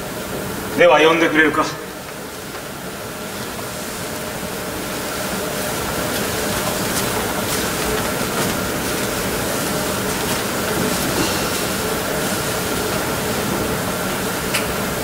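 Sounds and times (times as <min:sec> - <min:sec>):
steady rushing hiss: 0:00.1 - 0:15.0.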